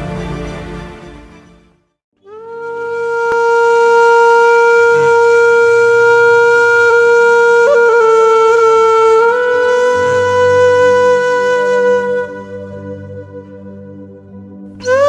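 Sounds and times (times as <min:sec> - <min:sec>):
wind instrument long note: 0:02.2 - 0:15.0.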